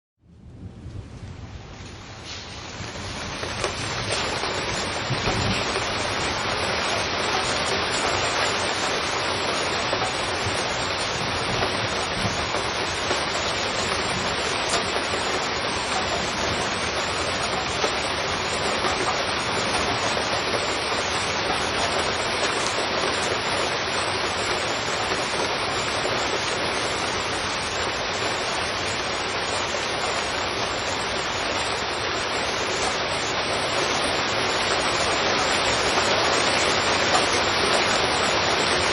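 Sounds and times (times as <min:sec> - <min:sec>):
heavy rain on a street: 0:00.2 - 0:38.9.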